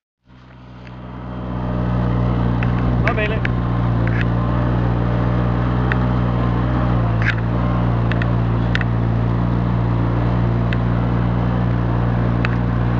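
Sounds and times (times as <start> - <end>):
atv engine running: 0.3 - 12.9.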